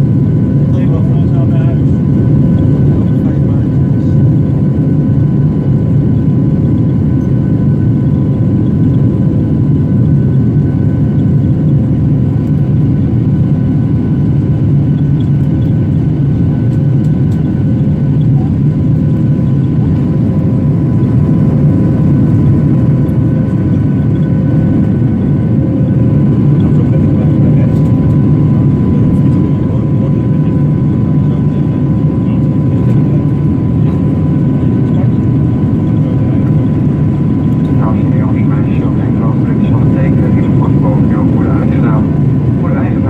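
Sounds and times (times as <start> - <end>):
jet engine roar in cabin: 0.0 - 43.0.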